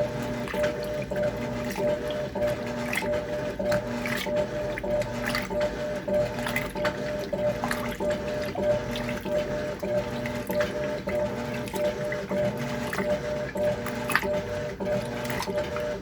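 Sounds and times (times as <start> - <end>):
washing machine motor humming: 0.0 - 16.0
water sloshing: 0.0 - 16.0.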